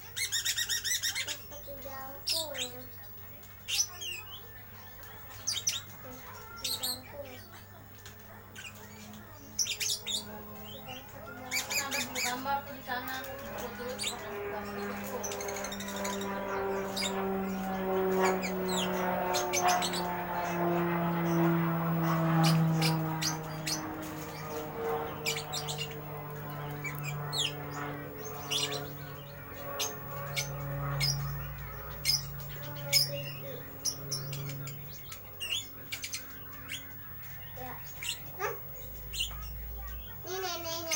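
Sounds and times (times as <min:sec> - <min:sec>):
low hum: 0:00.8 - 0:40.9.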